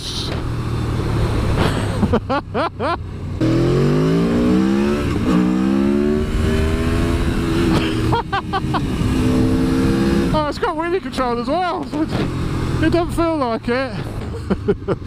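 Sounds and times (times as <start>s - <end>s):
motorcycle engine accelerating hard: 0.2s - 15.0s.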